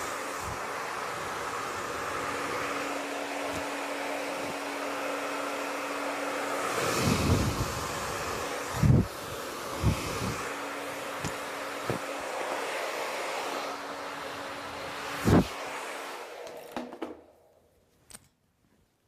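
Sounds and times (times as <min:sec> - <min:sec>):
hair dryer running: 0:00.0 - 0:17.7
hair being brushed: 0:00.0 - 0:18.3.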